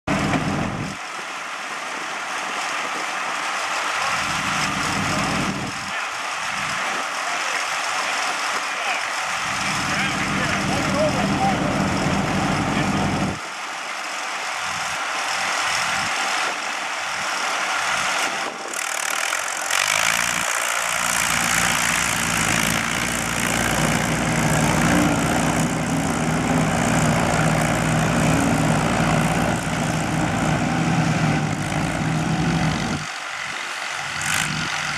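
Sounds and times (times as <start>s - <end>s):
tractor engines droning under load: 0.0s - 34.9s.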